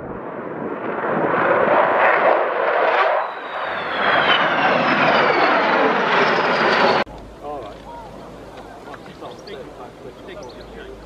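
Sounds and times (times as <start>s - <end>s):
high jet whine falling in pitch: 0.0s - 11.0s
jet engines roaring: 0.0s - 11.0s.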